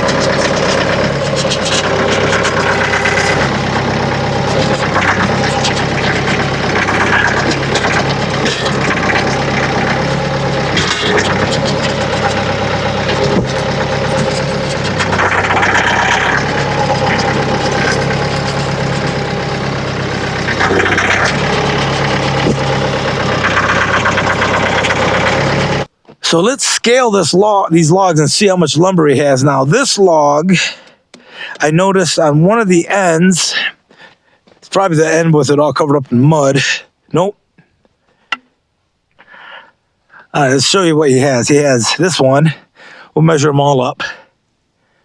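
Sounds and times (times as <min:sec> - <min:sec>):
tractor engine running: 0:00.0 - 0:38.6, 0:40.1 - 0:42.5.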